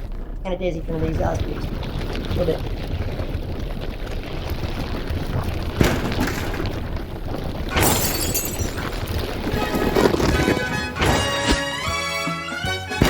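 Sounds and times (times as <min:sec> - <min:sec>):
crashing bursts: 0:00.0 - 0:13.0
loud rumbling noise: 0:00.0 - 0:13.0.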